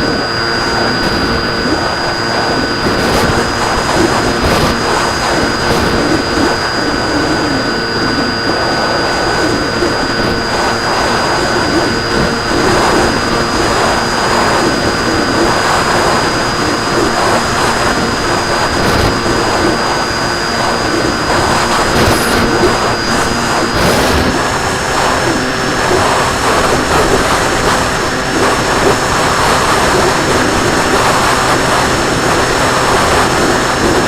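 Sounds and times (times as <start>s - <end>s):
model plane motor and propeller: 0.0s - 34.0s.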